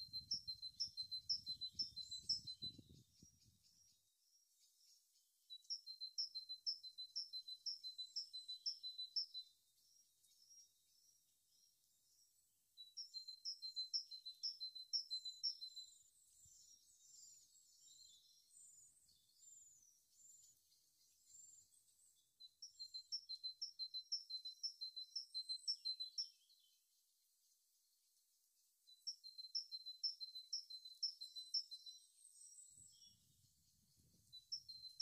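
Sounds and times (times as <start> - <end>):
soft bird twittering: 0.0 - 9.4, 12.8 - 26.7, 29.0 - 35.0
young songbird chirping: 0.0 - 26.8, 28.9 - 35.0.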